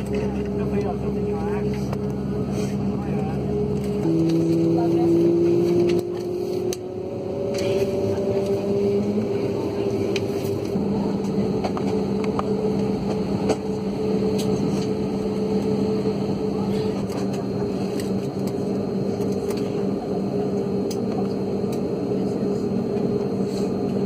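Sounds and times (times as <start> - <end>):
jet engine drone: 0.0 - 24.0
low hums: 0.0 - 24.0.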